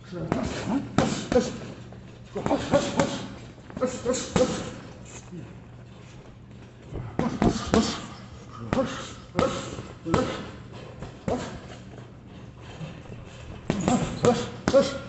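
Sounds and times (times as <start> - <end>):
gloves punching heavy bags: 0.0 - 5.5, 6.6 - 15.0.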